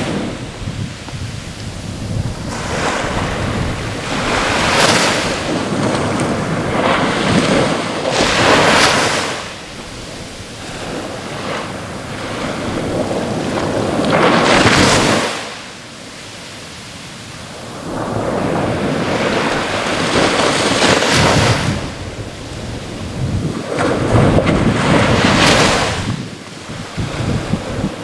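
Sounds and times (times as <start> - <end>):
ocean waves breaking on shore: 0.0 - 28.0.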